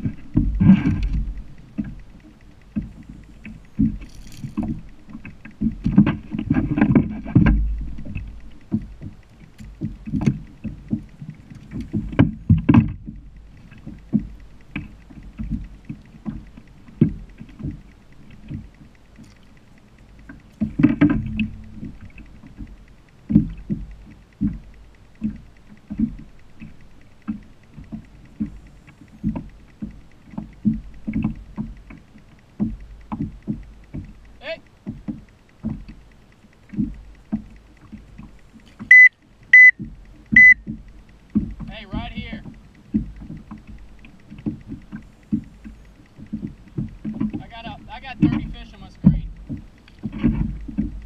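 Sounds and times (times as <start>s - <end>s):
water sounds: 0.0s - 51.0s.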